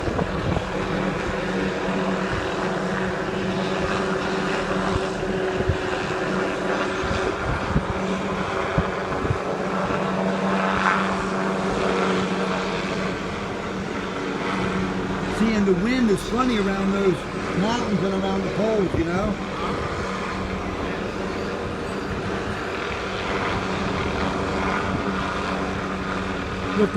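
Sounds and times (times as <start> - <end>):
helicopter drone: 0.0 - 26.9.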